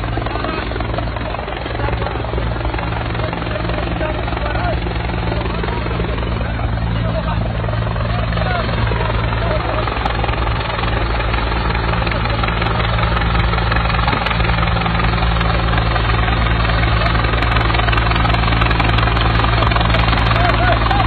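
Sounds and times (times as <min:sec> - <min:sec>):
loud low engine drone: 0:00.0 - 0:21.0.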